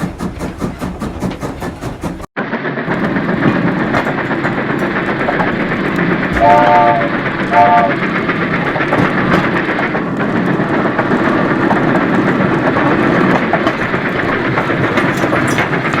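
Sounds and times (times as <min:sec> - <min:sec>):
train running on track: 0:00.0 - 0:16.0.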